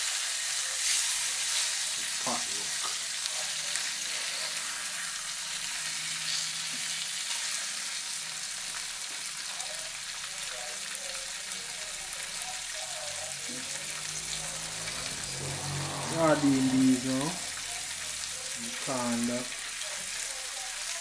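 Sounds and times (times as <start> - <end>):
spatula stirring in a pan: 0.0 - 18.9
fish sizzling in a frying pan: 0.0 - 21.0.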